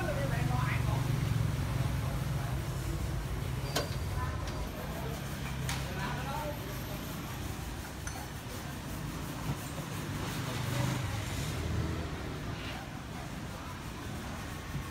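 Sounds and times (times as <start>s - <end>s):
street traffic: 0.0s - 14.9s.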